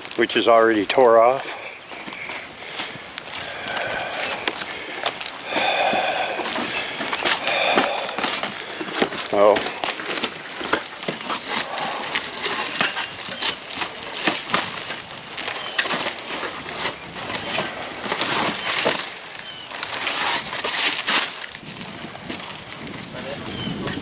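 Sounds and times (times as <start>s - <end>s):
roof shingles scraping and crunching: 0.0s - 24.0s.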